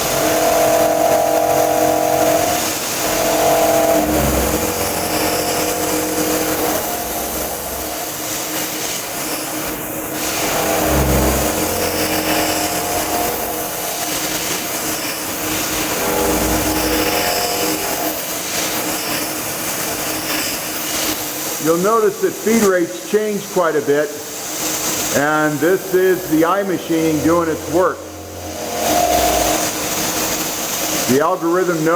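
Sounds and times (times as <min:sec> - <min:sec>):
milling machine cutting steel: 0:00.0 - 0:22.6, 0:24.4 - 0:31.9.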